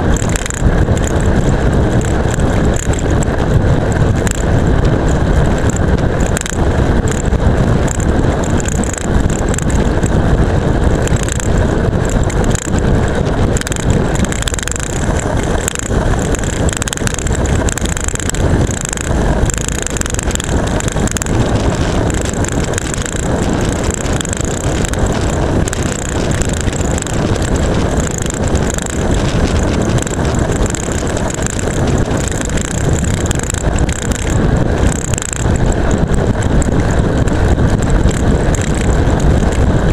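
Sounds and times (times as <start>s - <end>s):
camera rattling on mount: 0.0s - 39.9s
tyre noise on asphalt: 0.0s - 39.9s
wind rush: 0.0s - 39.9s.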